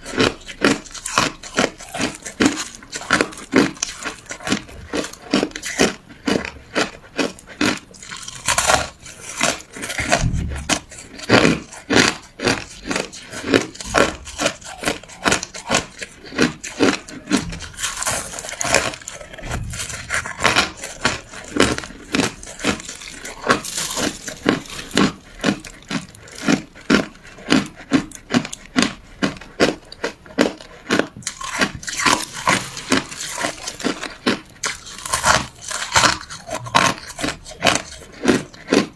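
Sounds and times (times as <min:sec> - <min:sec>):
ice crunching being chewed: 0:00.0 - 0:38.9.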